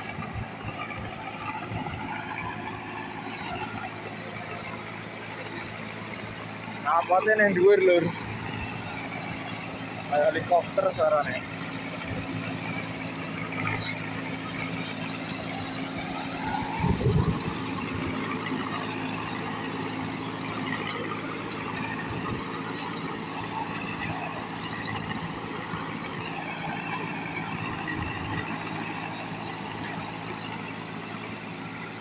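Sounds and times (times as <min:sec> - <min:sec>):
combine harvester droning: 0:00.0 - 0:32.0.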